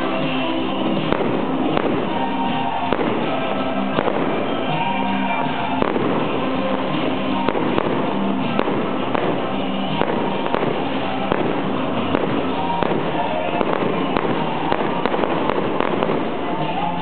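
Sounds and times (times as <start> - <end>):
fireworks bangs and crackles: 0.0 - 17.0
music: 0.0 - 17.0.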